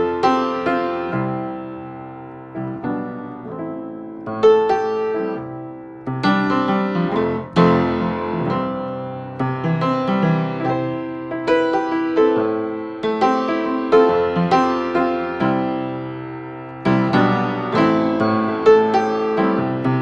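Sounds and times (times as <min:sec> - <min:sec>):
solo piano chords: 0:00.0 - 0:20.0.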